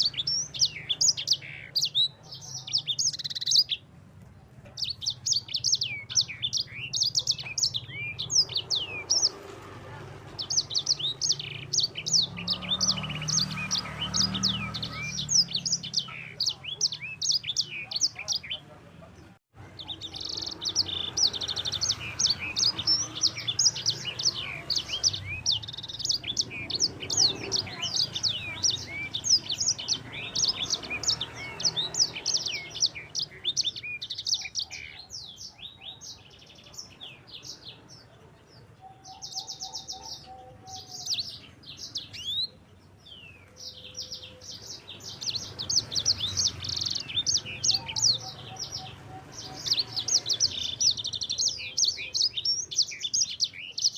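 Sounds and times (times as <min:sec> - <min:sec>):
songbird twittering song: 0:00.0 - 0:53.9.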